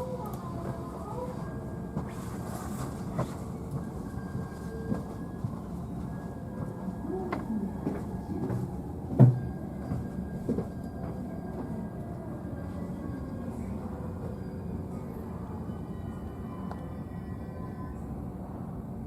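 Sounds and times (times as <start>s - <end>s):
train rolling rumble: 0.0s - 19.0s.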